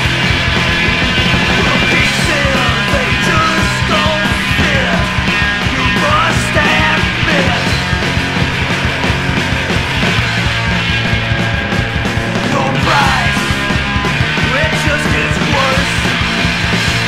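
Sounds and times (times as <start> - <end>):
loud punk rock song: 0.0 - 17.0.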